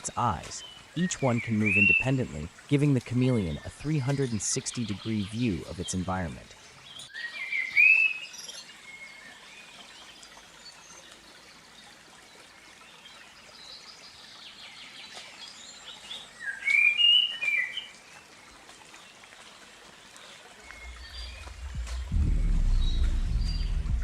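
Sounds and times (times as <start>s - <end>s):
birds chirping: 0.0s - 24.0s
faint steady hiss: 0.0s - 24.0s.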